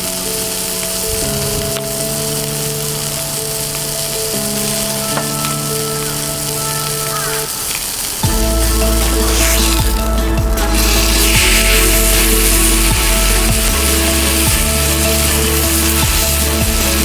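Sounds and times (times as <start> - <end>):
background music of held notes: 0.0 - 17.0
beef sizzling: 0.0 - 17.0.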